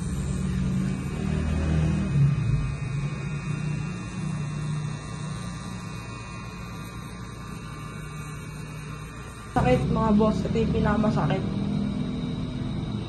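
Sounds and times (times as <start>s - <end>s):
tattoo machine humming: 0.0s - 13.0s.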